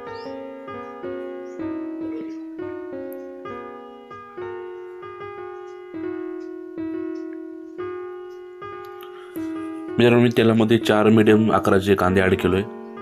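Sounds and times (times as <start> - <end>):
slow piano notes: 0.0 - 13.0.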